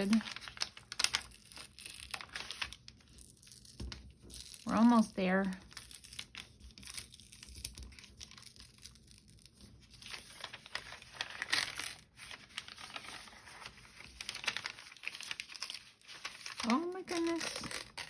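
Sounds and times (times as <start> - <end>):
paper bag crinkling: 0.0 - 4.0, 7.2 - 18.0
paper tearing: 0.0 - 5.0, 5.7 - 18.0.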